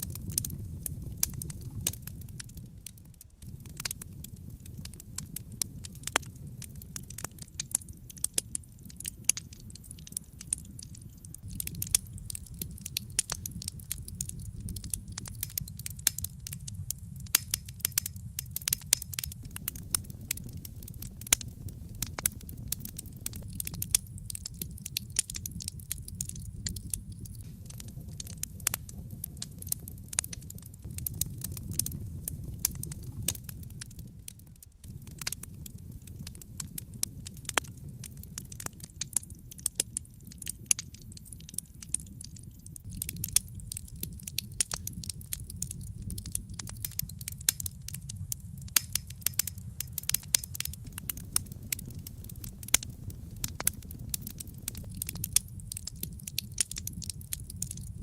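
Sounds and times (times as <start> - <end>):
fire popping and snapping: 0.0 - 58.0
low rumble of flames: 0.0 - 58.0
wood fire crackling: 0.0 - 58.0.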